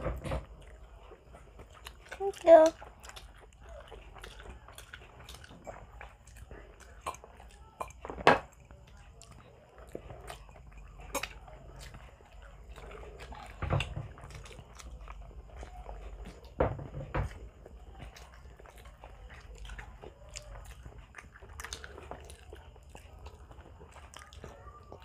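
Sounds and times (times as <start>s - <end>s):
close chewing and biting: 0.0s - 25.0s.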